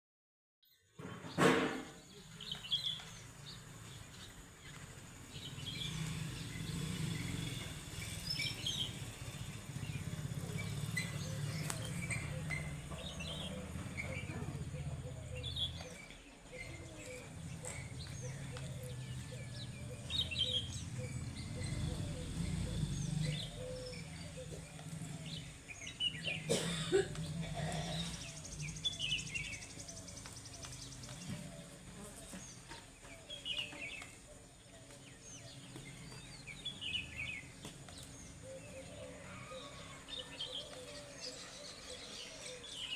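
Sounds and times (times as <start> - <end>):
birds chirping: 0.6 - 42.9.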